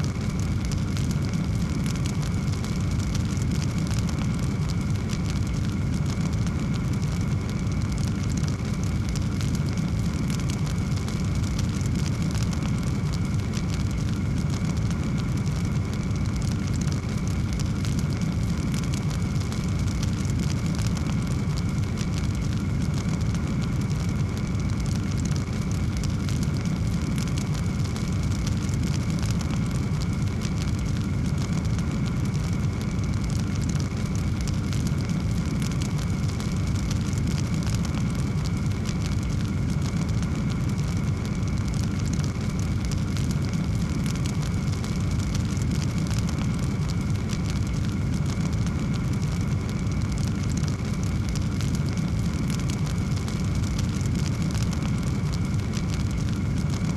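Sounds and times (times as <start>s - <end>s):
fire crackling: 0.0s - 56.9s
low rumble of flame: 0.0s - 56.9s.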